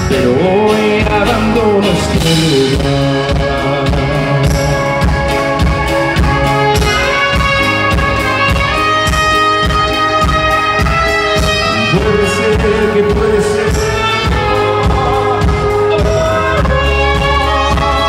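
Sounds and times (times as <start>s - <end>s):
rock band playing: 0.0s - 18.0s
horn holding long notes: 1.5s - 18.0s.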